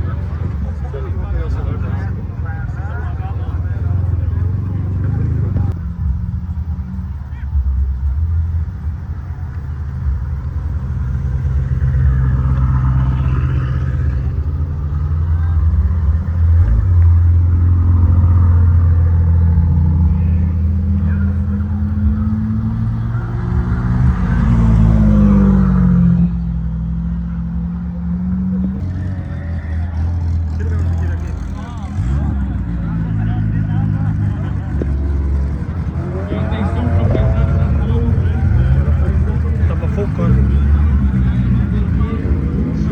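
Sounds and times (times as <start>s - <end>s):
motorcycle engines droning: 0.0s - 42.9s.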